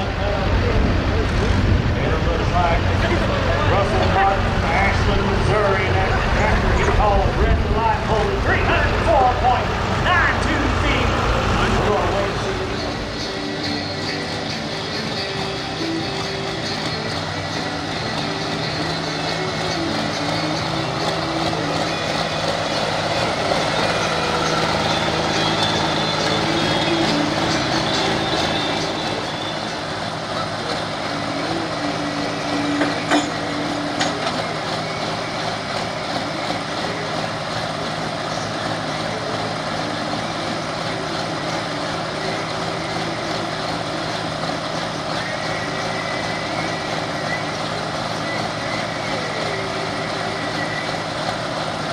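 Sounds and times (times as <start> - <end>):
diesel engine running at low speed: 0.0 - 51.9.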